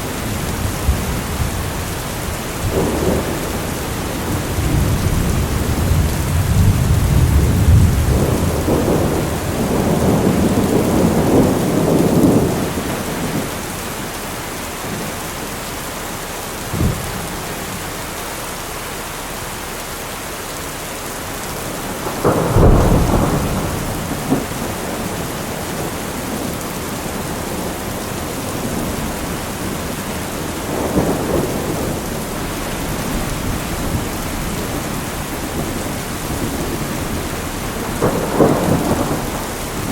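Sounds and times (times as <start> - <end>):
heavy rain: 0.0 - 39.9
rolling thunder: 0.3 - 14.1, 16.6 - 17.9, 21.6 - 39.9.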